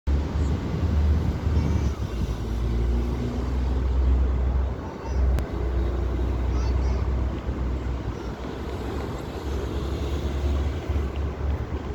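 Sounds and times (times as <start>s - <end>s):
wind buffeting microphone: 0.1s - 11.9s.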